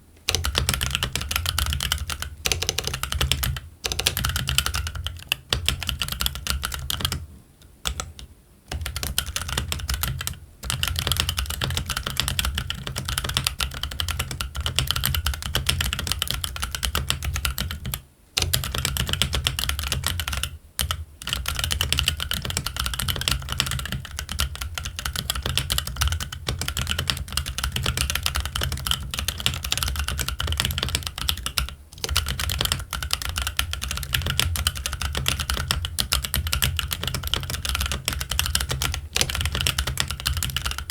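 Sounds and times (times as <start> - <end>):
fast mechanical keyboard typing: 0.3 - 7.2, 7.8 - 40.9.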